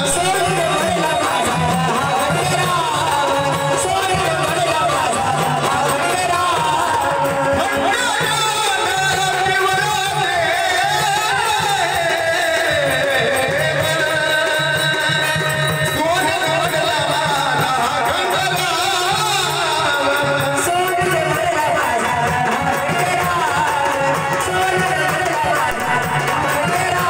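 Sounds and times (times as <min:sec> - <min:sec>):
steady drum beat: 0:00.0 - 0:27.0.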